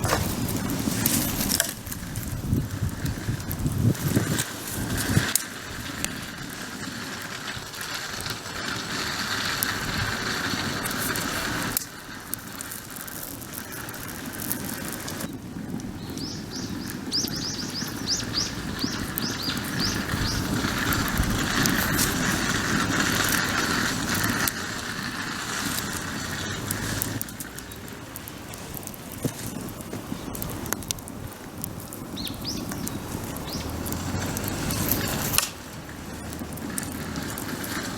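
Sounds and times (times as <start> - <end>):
campfire crackling and hissing: 0.0 - 37.9.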